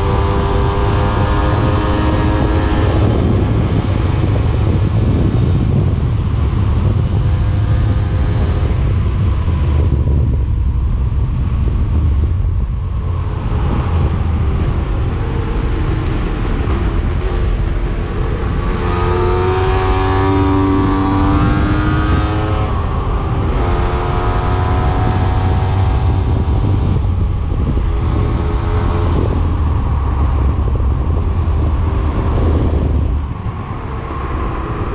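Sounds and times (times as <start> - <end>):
motorcycle engine revving: 0.0 - 34.9
wind rumble on microphone: 0.0 - 34.9.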